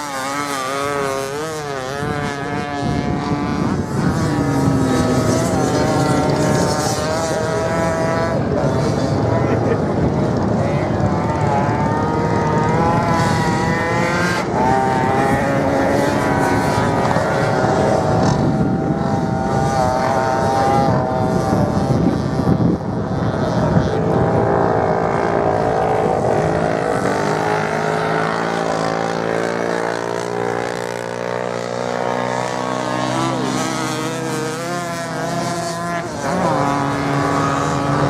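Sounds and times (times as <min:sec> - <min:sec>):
racing motorcycle engines revving: 0:00.0 - 0:38.0.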